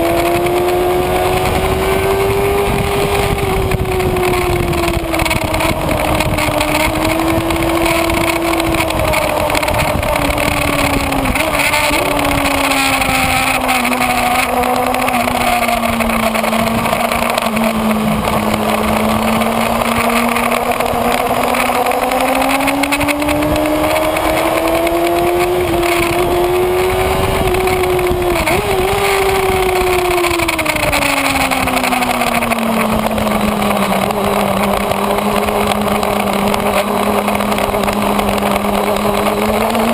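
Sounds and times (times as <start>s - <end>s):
motorcycle engine at speed: 0.0s - 39.9s
wind rushing: 0.0s - 39.9s.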